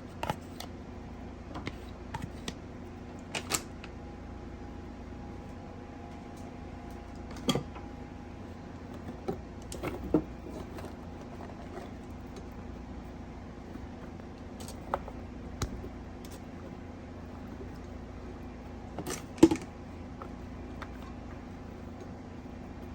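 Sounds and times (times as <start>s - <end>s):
steady hum: 0.0s - 22.9s.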